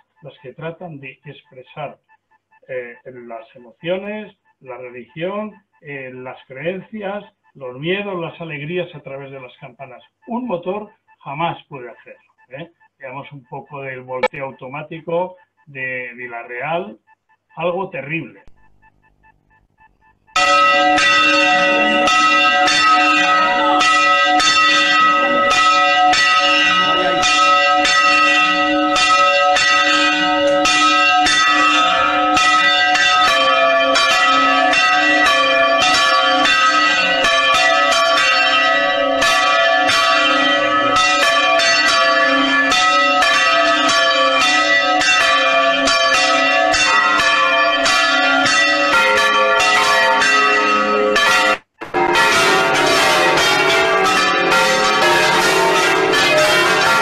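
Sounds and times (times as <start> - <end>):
church bells ringing: 0.0 - 2.0, 2.7 - 16.9, 20.3 - 57.0.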